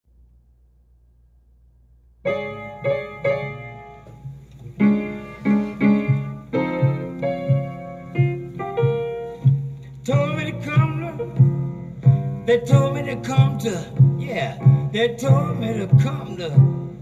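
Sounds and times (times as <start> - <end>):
blues piano: 2.2 - 17.0.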